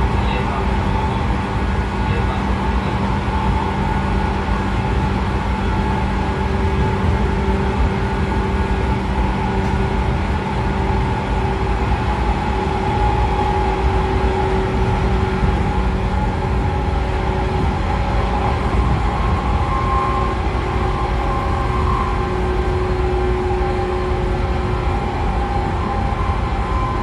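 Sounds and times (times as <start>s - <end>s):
train traction motors humming: 0.0s - 27.0s
train wheels rumbling on rails: 0.0s - 27.0s.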